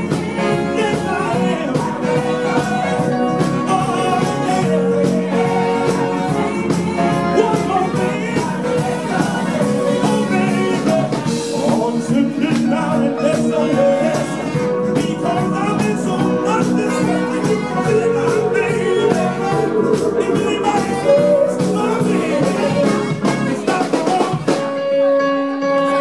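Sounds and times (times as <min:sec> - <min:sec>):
man singing: 0:00.0 - 0:24.9
soul band playing: 0:00.0 - 0:26.0.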